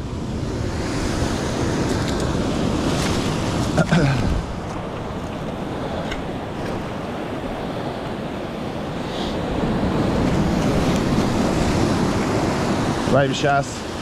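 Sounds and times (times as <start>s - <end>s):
sea surf over rocks: 0.0s - 14.0s.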